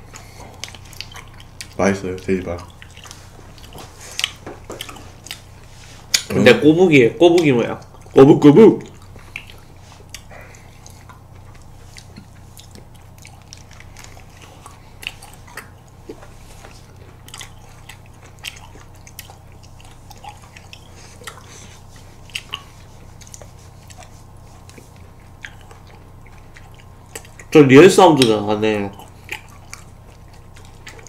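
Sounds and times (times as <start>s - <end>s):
crunchy ice cream bar chewing: 0.0s - 6.5s, 8.8s - 31.0s.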